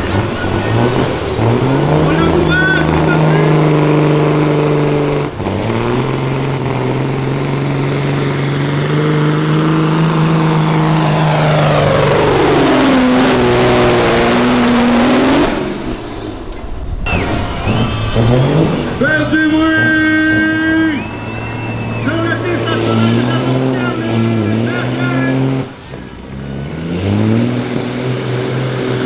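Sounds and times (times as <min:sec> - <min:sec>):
truck diesel engine under load: 0:00.0 - 0:29.0.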